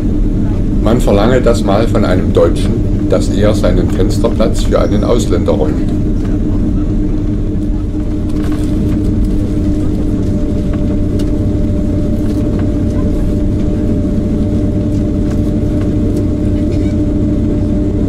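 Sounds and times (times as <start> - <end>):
constant two-note hum: 0.0 - 18.0
jet engines rumbling in cabin: 0.0 - 18.0.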